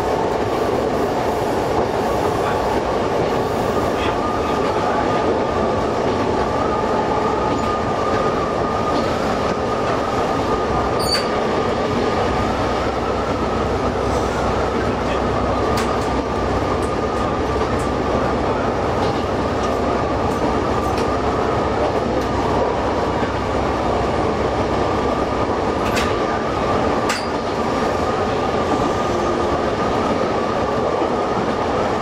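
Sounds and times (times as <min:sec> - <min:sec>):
railcar engine and wheels rumbling: 0:00.0 - 0:32.0.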